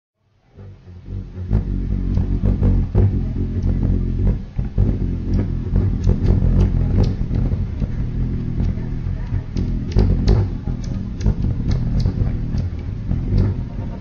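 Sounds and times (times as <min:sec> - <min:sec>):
distorted low bass drone: 0:00.3 - 0:14.0.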